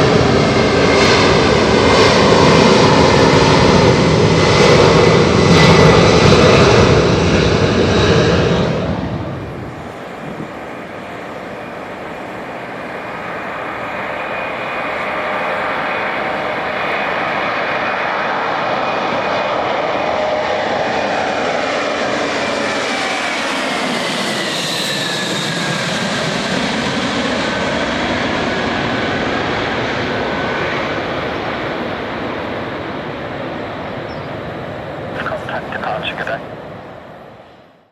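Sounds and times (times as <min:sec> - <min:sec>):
jet engine whine falling in pitch: 0:00.0 - 0:36.9
jet engines passing by: 0:00.0 - 0:37.7.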